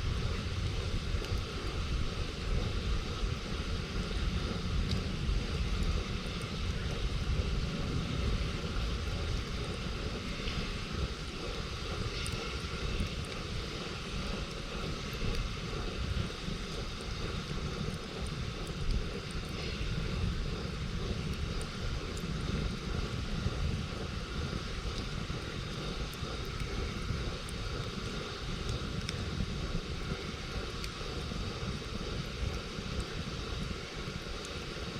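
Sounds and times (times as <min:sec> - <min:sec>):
campfire crackling: 0:00.0 - 0:34.9
fire low rumble: 0:00.0 - 0:34.9.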